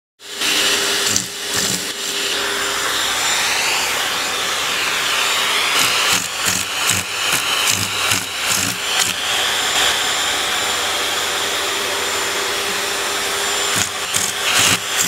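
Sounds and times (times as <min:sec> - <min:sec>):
vacuum cleaner running: 0:00.2 - 0:15.0.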